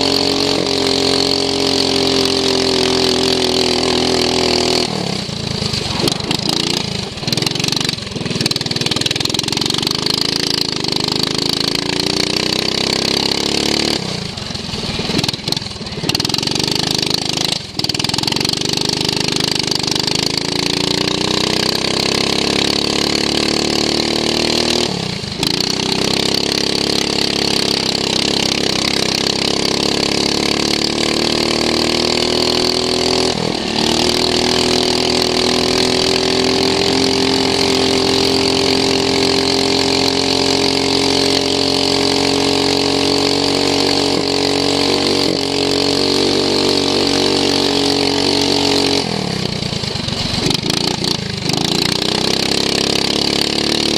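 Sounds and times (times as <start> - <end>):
lawn mower engine revving: 0.0 - 53.9.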